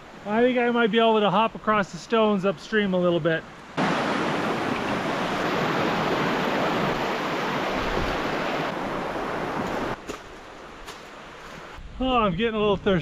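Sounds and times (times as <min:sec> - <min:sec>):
stream water rushing: 0:00.0 - 0:11.8.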